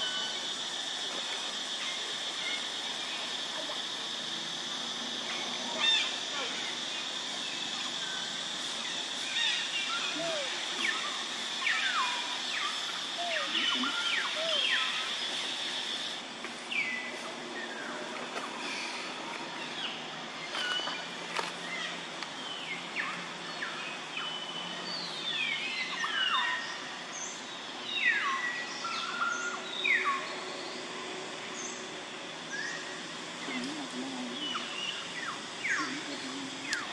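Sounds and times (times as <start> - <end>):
steady outdoor hiss: 0.0 - 36.9
birds chirping: 4.9 - 36.9.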